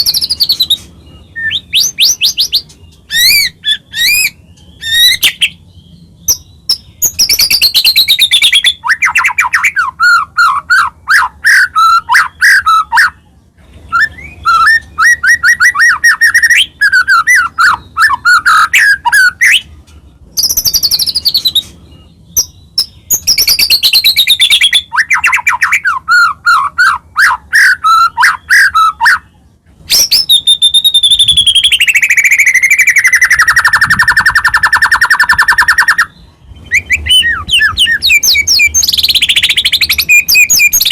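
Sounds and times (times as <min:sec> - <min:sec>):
songbird whistles and trills: 0:00.0 - 0:40.9.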